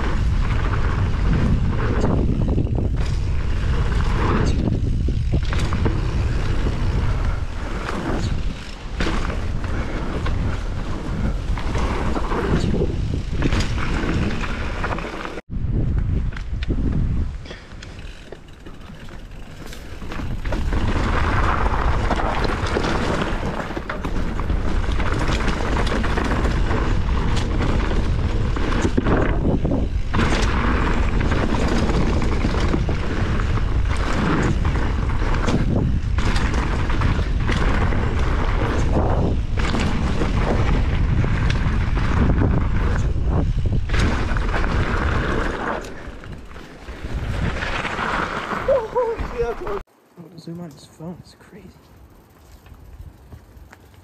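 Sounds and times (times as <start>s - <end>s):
wind buffeting microphone: 0.0s - 14.9s, 15.5s - 49.8s.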